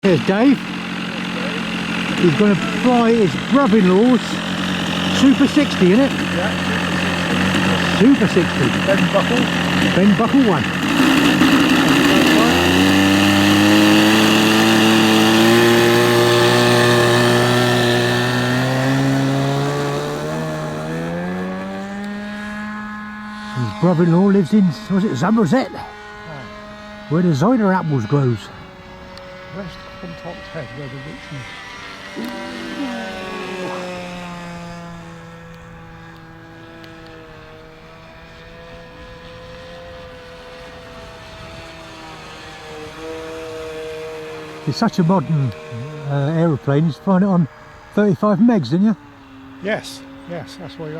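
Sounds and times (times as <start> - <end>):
model aircraft engine buzzing: 0.0 - 50.9.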